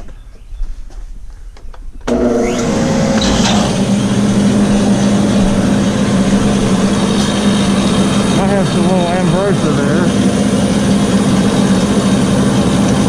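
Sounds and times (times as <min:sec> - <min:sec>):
planer motor humming: 0:02.0 - 0:13.0
dust extraction rushing air: 0:02.1 - 0:13.0.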